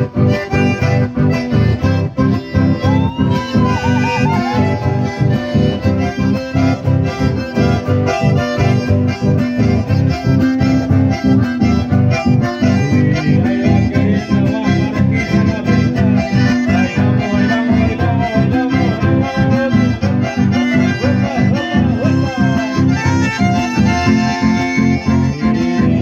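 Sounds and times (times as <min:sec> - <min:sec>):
accordions playing dance music: 0:00.0 - 0:26.0
guitar accompaniment: 0:00.0 - 0:26.0.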